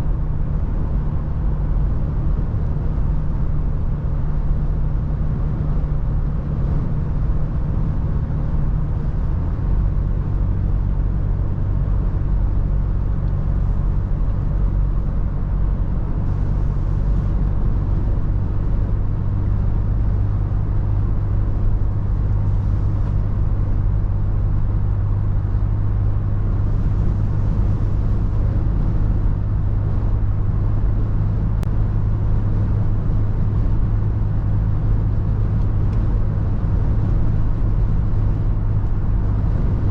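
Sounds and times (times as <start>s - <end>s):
car engine droning: 0.0s - 39.9s
tyre and wind noise: 2.0s - 39.9s.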